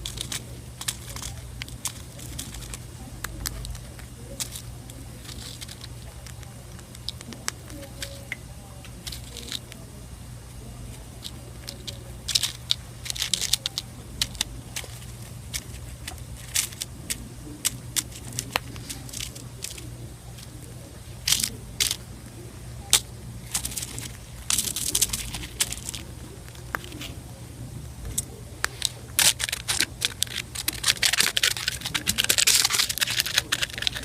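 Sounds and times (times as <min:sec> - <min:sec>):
bird beak crunching muffin: 0:00.0 - 0:34.0.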